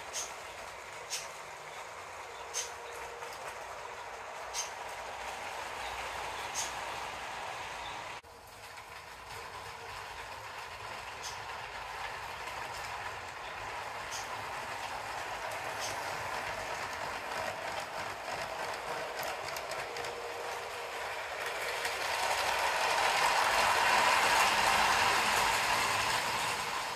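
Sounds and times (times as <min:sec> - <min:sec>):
plastic wheels rattling on track: 0:00.0 - 0:07.1, 0:08.2 - 0:26.9.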